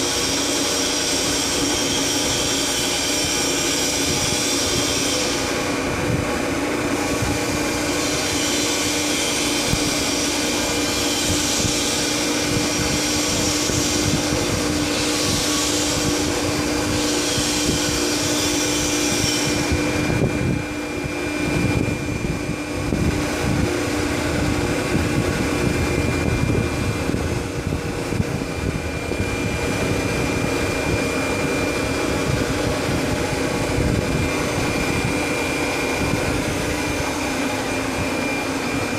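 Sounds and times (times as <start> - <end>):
hydraulic power unit hum: 0.0 - 38.9.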